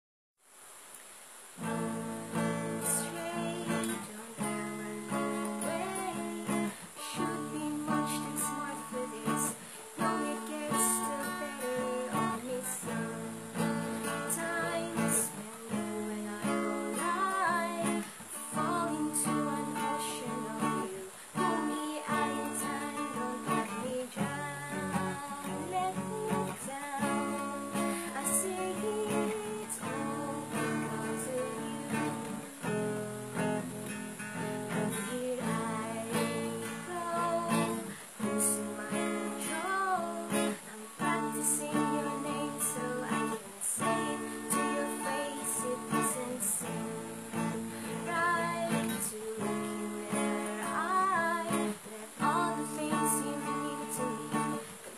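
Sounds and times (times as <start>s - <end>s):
acoustic guitar strumming: 1.6s - 54.9s
woman singing: 1.6s - 54.9s.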